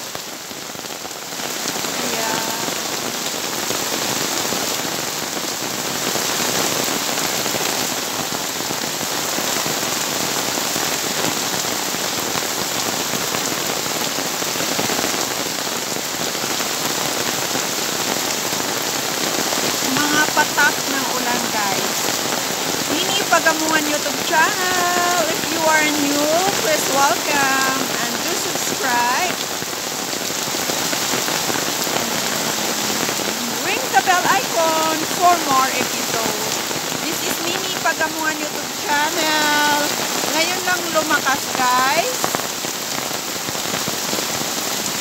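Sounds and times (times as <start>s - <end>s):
heavy rain on pavement and roofs: 0.0s - 45.0s.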